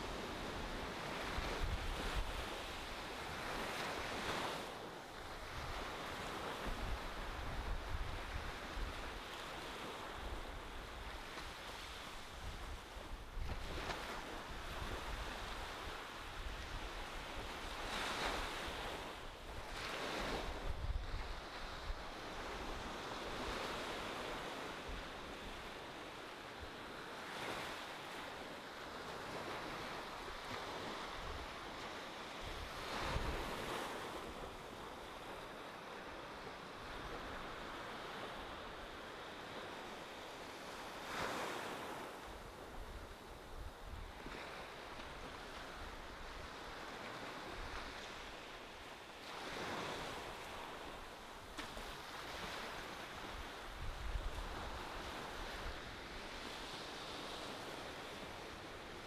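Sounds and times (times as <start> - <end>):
waves breaking on beach: 0.0 - 59.0.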